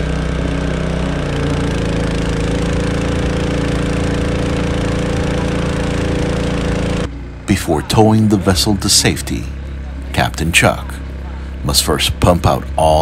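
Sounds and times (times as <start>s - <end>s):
small pump engine running: 0.0s - 13.0s.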